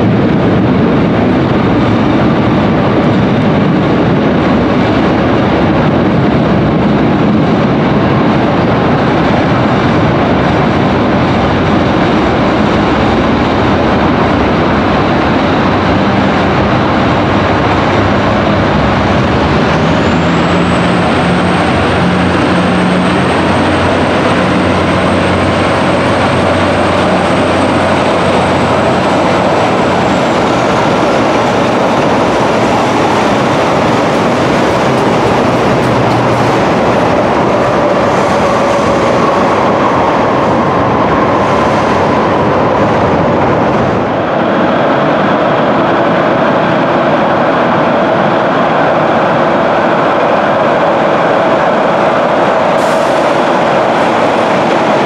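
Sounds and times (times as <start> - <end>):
diesel tractor engine and rail rumble: 0.0 - 55.0.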